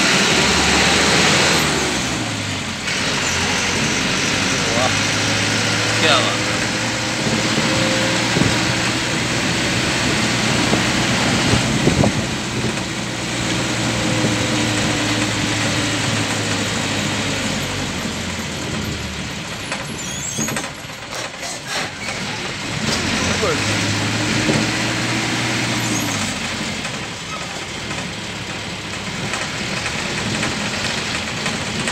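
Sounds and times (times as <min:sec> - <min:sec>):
road rumble: 0:00.0 - 0:31.9
vehicle engine drone: 0:00.0 - 0:31.9.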